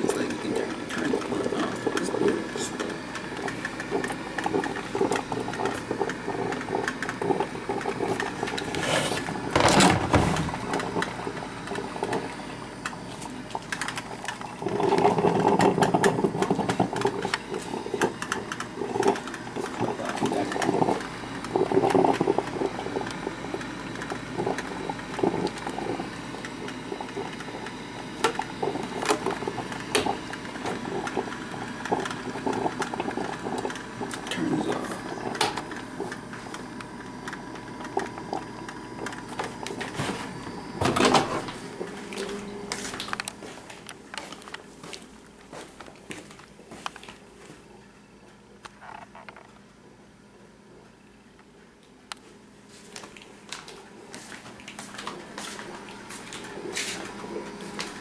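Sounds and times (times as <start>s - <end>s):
coffee maker gurgling and sputtering: 0.0s - 52.3s, 52.9s - 58.0s.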